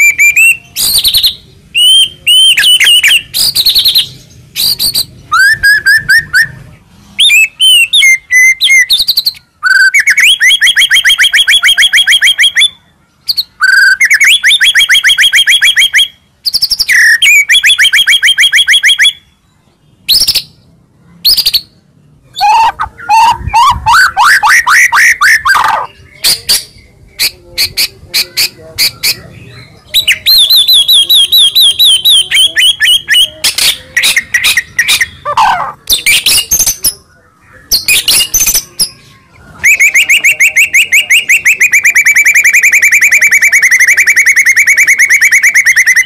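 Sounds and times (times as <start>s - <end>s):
bird singing rapid trilled phrases: 0.0s - 46.0s.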